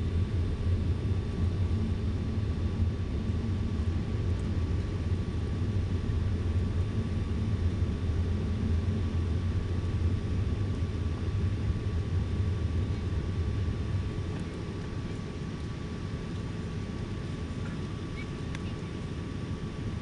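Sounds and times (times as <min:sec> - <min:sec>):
airliner engine and airflow rumble: 0:00.0 - 0:20.0
faint steady whine: 0:00.0 - 0:20.0.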